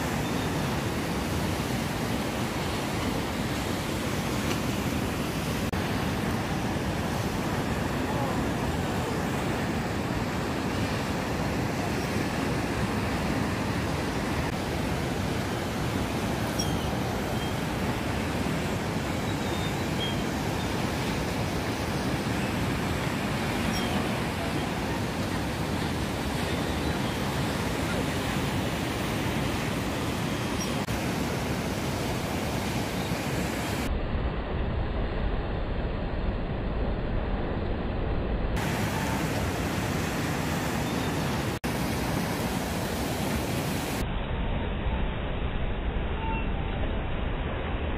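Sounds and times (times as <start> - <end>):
waves breaking and churning: 0.0 - 47.9.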